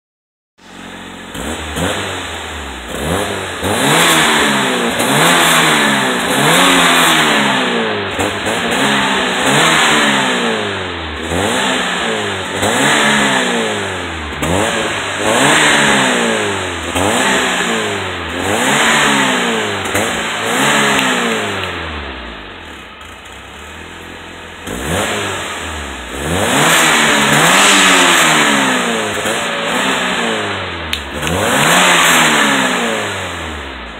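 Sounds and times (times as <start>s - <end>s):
car engine revving: 0.6s - 33.9s.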